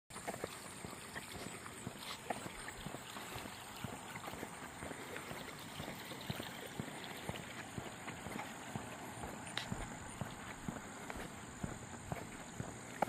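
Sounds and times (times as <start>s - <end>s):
water rushing in a ditch: 0.1s - 13.0s.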